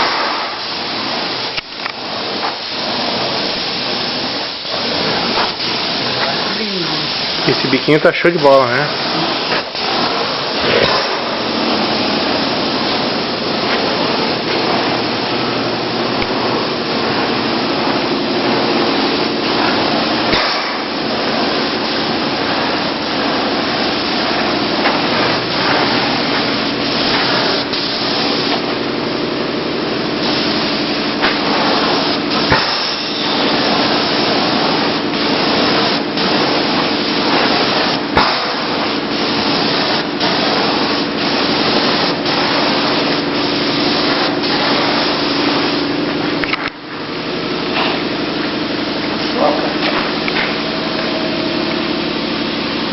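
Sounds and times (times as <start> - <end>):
paint spray hissing: 0.0 - 52.9
pump humming: 0.0 - 52.9.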